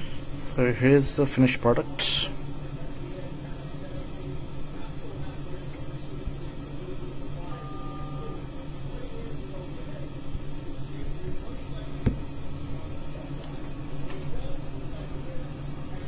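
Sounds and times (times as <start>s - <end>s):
low hum of machine noise: 0.0s - 16.0s.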